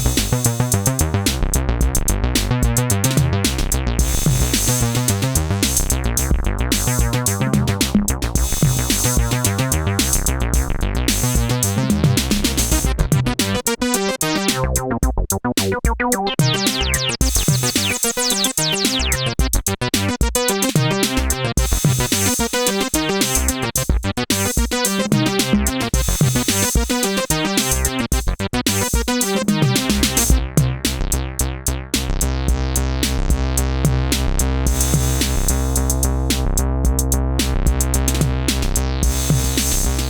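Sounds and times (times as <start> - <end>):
drum machine beat: 0.0 - 31.3, 32.0 - 40.0
synthesizer bass line: 0.0 - 40.0.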